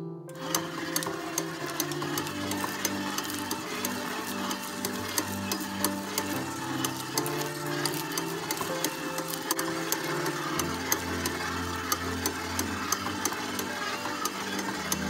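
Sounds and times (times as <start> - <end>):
background music with held notes: 0.0 - 15.0
stand mixer running: 0.3 - 15.0
dough clicking and knocking in bowl: 0.4 - 15.0.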